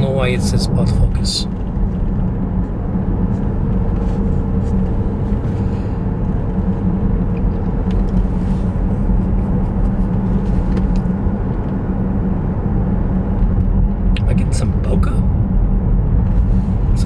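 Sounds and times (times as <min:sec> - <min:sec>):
road and tyre rumble in car cabin: 0:00.0 - 0:17.0.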